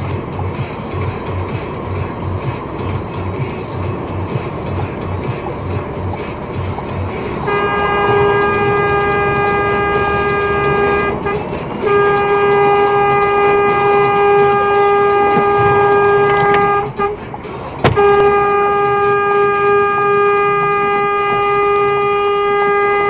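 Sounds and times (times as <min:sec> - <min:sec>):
truck cab running noise: 0:00.0 - 0:23.0
truck horn blasts: 0:00.0 - 0:23.0.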